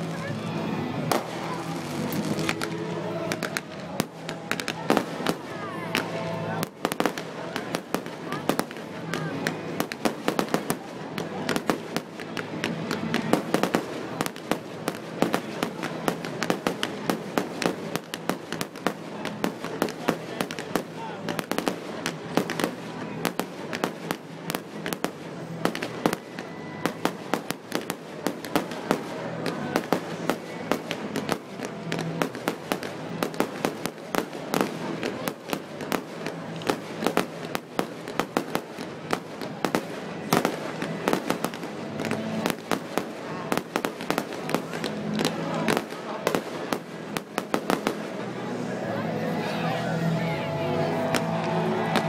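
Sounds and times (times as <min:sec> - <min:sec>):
fireworks bangs and crackling: 0:00.0 - 0:48.8, 0:50.9 - 0:52.0.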